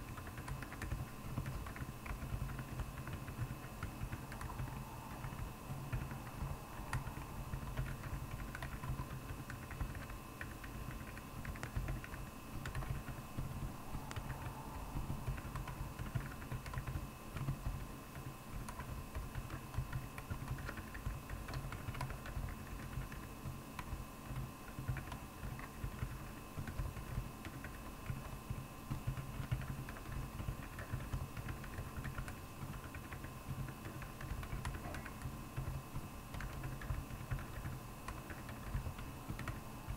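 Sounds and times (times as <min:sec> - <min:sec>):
faint steady hum: 0:00.0 - 0:39.9
dampened keyboard keystrokes: 0:00.1 - 0:17.9, 0:18.6 - 0:39.9.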